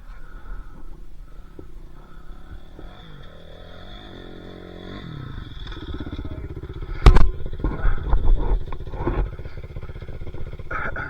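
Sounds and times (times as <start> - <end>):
dirt bike engine revving: 0.2 - 11.0.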